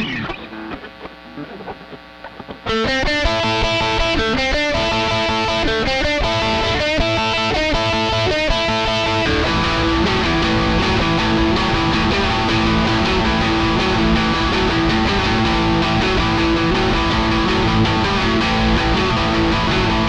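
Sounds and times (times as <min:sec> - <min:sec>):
distorted electric guitar riff: 0:00.0 - 0:20.0.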